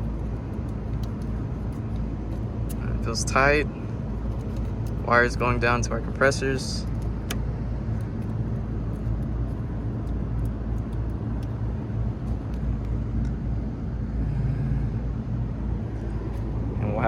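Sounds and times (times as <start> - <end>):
faint background rush: 0.0 - 17.0
low machinery hum: 0.0 - 17.0.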